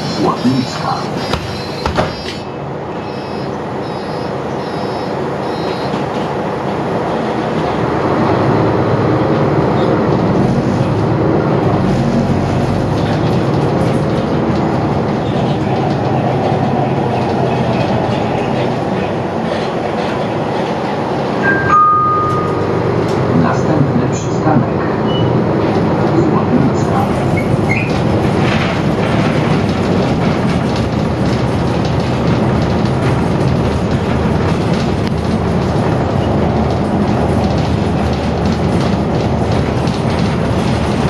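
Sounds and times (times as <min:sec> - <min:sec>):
bus diesel engine: 0:00.0 - 0:41.0
bus rolling noise: 0:00.0 - 0:41.0.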